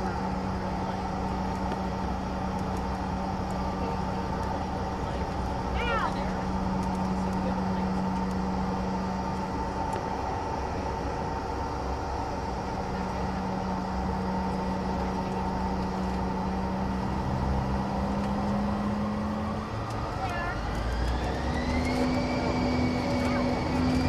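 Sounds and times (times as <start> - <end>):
jet engines idling hum: 0.0 - 24.0.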